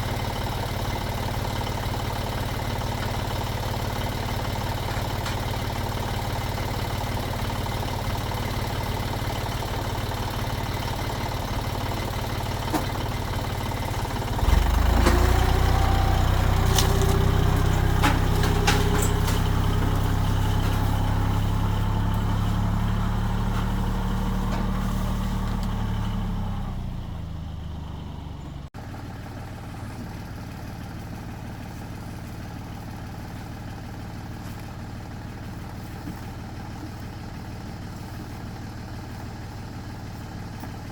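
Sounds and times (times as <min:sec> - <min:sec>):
tractor engine idling and revving: 0:00.0 - 0:40.9.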